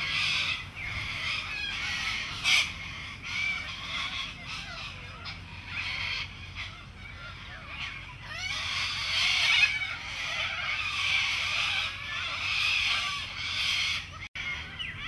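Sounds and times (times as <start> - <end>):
birds calling and chirping: 0.0 - 15.0.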